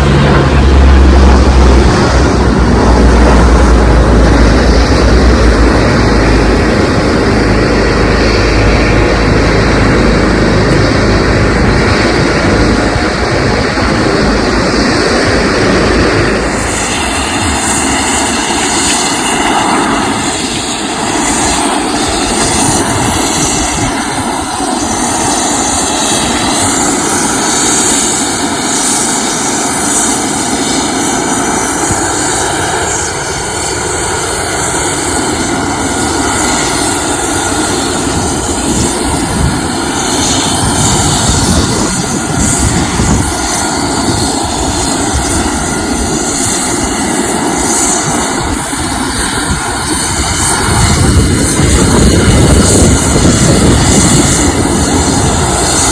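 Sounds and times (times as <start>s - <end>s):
turboprop engines and propellers: 0.0s - 55.9s.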